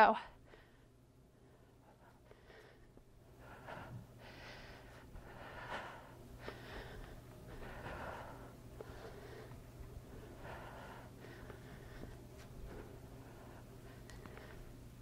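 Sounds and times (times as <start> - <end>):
low room hum: 0.0 - 15.0
woman breathing hard: 0.3 - 15.0.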